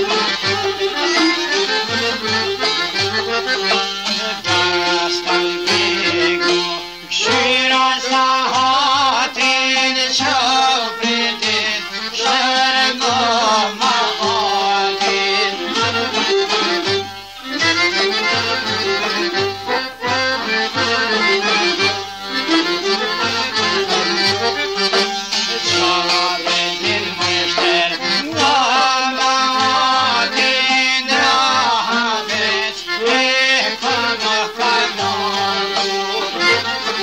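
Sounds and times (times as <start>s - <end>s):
accordion melody: 0.0s - 37.0s.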